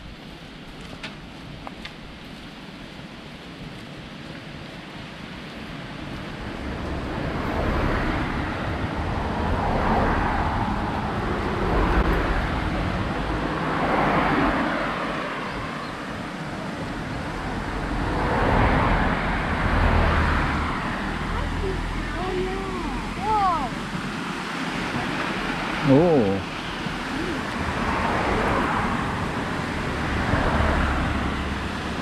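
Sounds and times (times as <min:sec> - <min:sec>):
cars and van passing: 0:04.4 - 0:32.0.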